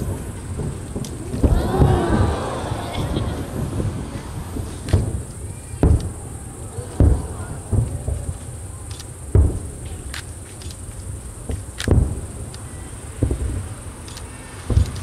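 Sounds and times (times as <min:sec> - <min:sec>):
crickets trilling: 0:00.0 - 0:15.0
distant fireworks booms: 0:00.0 - 0:15.0.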